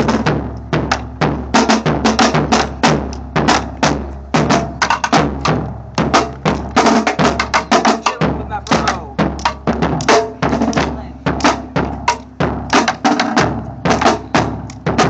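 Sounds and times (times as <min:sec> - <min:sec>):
drums played with sticks: 0:00.0 - 0:15.0.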